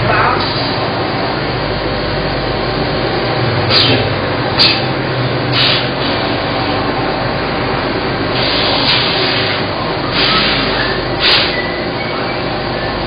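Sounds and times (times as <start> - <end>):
loud steady machine noise: 0.0 - 13.0.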